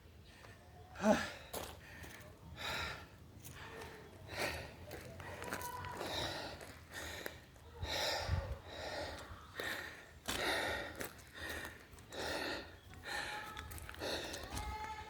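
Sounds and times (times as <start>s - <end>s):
man breathing heavily: 0.2s - 14.8s.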